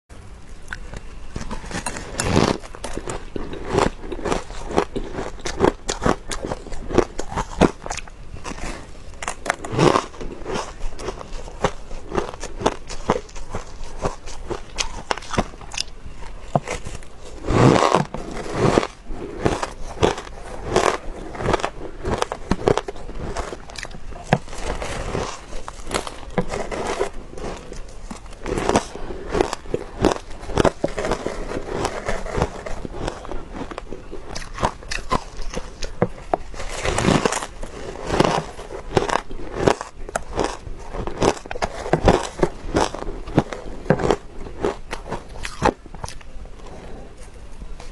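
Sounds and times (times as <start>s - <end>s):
shaved ice crunching in chewing: 0.5s - 47.1s.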